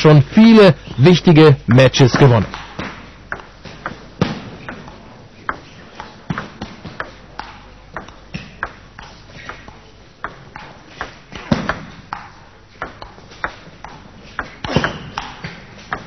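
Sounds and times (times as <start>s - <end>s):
table tennis ball ticking: 2.1s - 16.0s.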